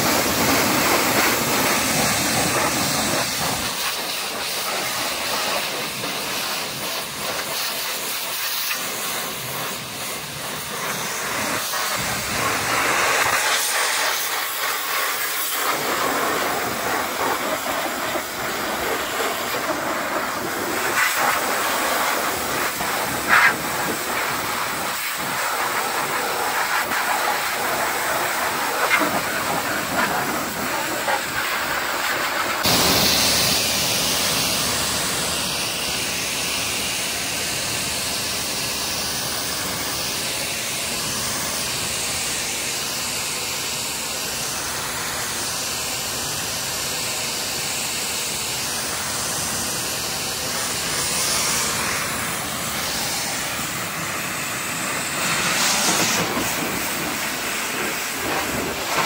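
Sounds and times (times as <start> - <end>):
pressure washer jet hissing: 0.0 - 59.0.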